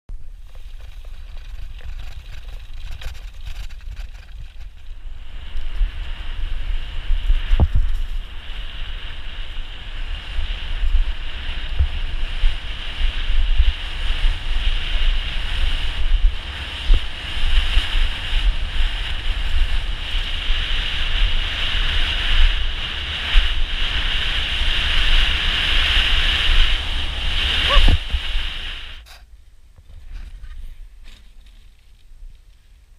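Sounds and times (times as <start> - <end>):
wind buffeting microphone: 0.1 - 29.1
bike tyre noise on dirt: 0.1 - 32.9
steady high hiss: 5.0 - 32.9.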